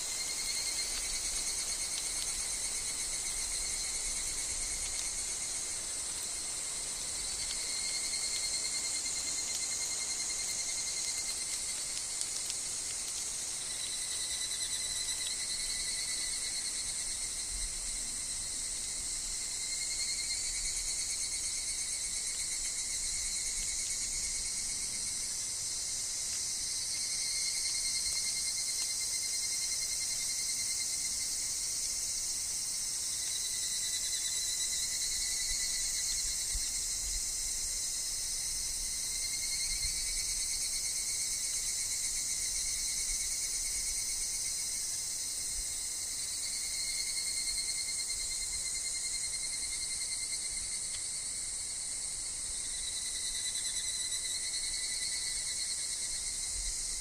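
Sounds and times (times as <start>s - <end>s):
cicadas singing: 0.0s - 57.0s
insects chorus: 0.0s - 57.0s.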